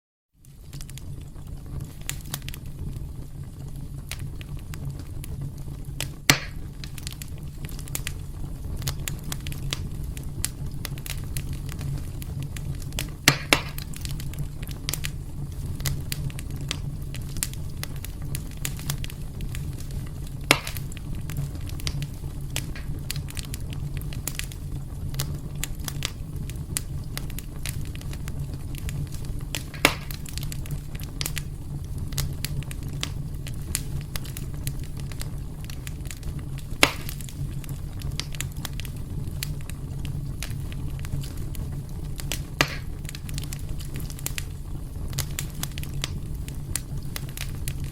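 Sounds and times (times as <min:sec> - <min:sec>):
fire pops: 0:00.4 - 0:47.9
wood fire crackling: 0:00.4 - 0:47.9.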